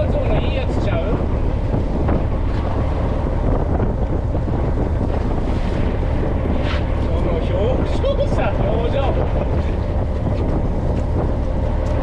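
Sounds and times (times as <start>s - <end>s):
steady low rumble: 0.0s - 12.0s
waves washing: 0.0s - 12.0s
wind buffeting microphone: 0.0s - 12.0s.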